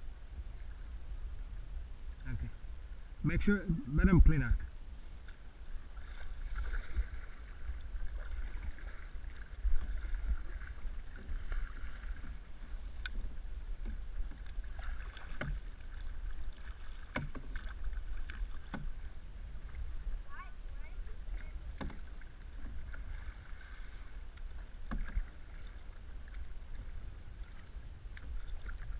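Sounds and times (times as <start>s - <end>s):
wind rumble on microphone: 0.0s - 28.9s
water lapping against canoe hull: 0.1s - 28.9s.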